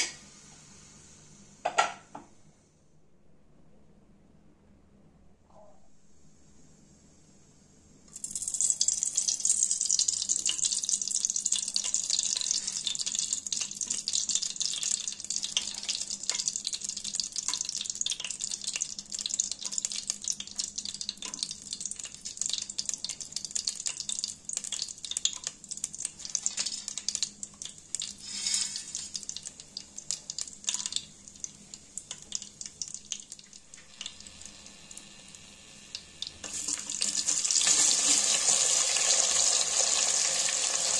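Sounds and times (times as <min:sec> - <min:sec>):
spices sizzling in hot oil: 0:08.1 - 0:40.9.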